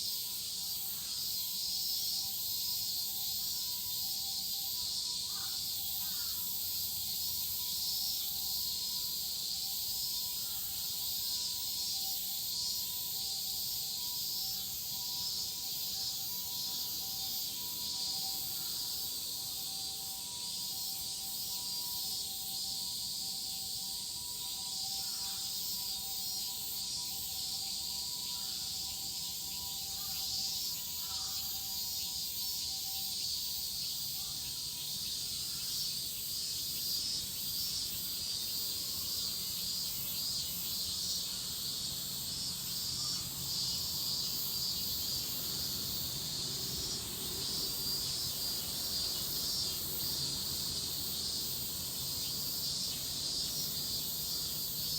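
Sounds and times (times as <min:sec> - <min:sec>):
cicada chorus: 0:00.0 - 0:54.9
faint steady tones: 0:00.0 - 0:54.9.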